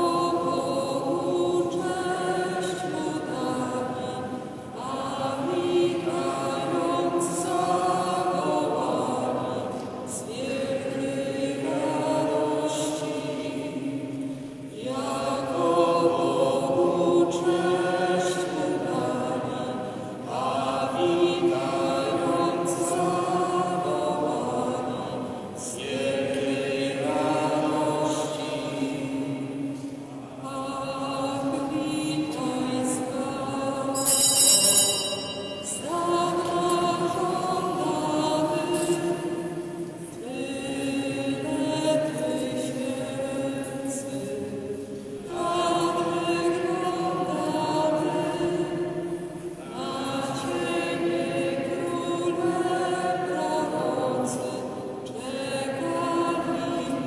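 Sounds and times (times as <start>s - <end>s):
choir singing a carol: 0.0s - 57.0s.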